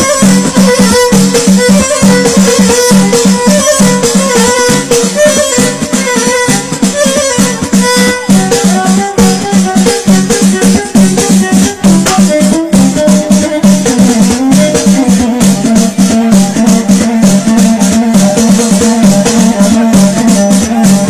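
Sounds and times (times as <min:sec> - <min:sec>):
drum beat: 0:00.0 - 0:21.0
instrumental melody: 0:00.0 - 0:21.0
rattling hand percussion: 0:00.0 - 0:21.0.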